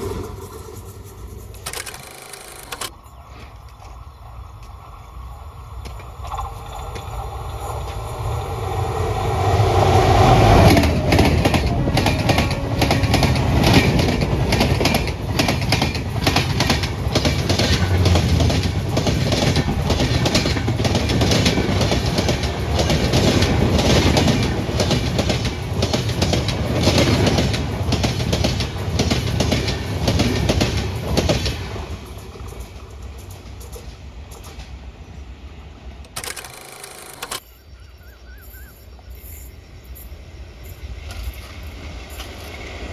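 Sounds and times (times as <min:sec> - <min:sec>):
train passing at high speed: 0:00.0 - 0:36.2, 0:39.0 - 0:42.9
wheels clickety-clack over rail joints: 0:00.0 - 0:37.5, 0:40.0 - 0:42.9.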